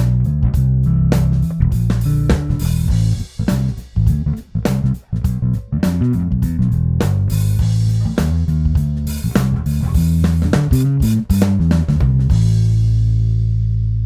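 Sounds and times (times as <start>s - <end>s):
electric bass riff: 0.0s - 14.0s.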